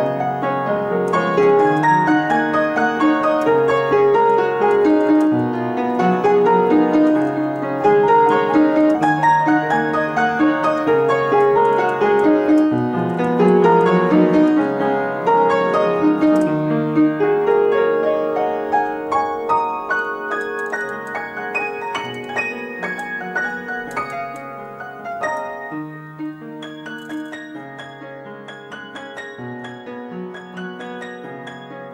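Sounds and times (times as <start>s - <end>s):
solo piano: 0.0s - 31.9s.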